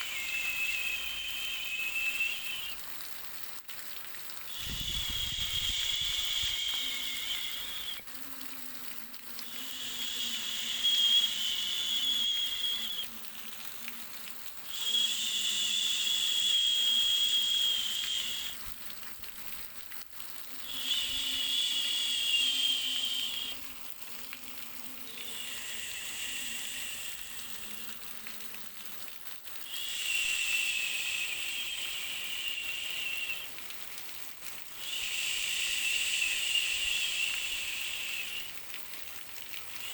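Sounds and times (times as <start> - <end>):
whistly white noise hiss: 0.0 - 3.4, 4.4 - 19.6, 20.4 - 39.9.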